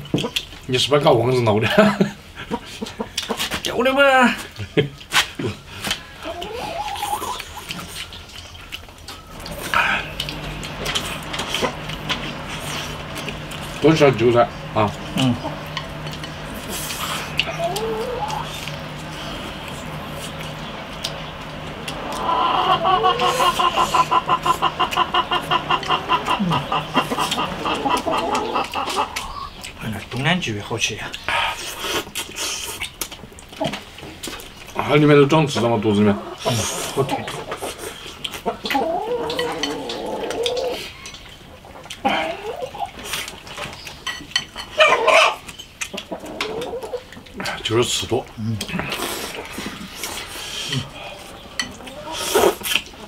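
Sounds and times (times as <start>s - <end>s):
chicken clucking rapidly: 0.0s - 53.0s.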